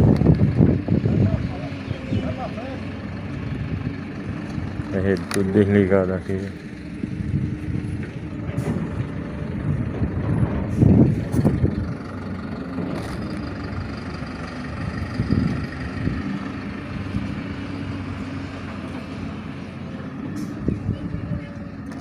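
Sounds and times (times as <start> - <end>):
heavy truck engine running: 0.0 - 22.0.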